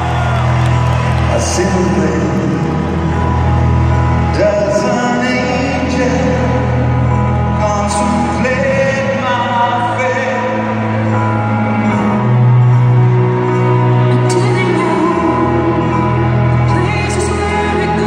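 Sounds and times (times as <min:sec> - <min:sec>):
person singing long gliding notes: 0:01.3 - 0:18.0.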